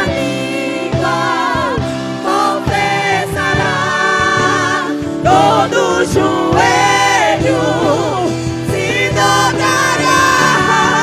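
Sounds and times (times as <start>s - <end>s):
vocal group singing gospel: 0.0s - 11.0s.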